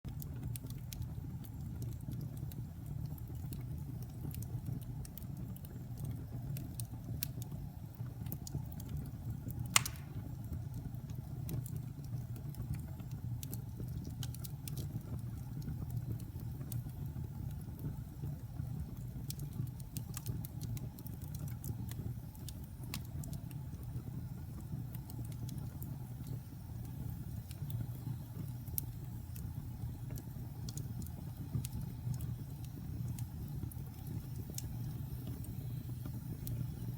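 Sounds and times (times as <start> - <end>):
fire crackling and popping: 0.1 - 36.9
low fire rumble: 0.1 - 36.9.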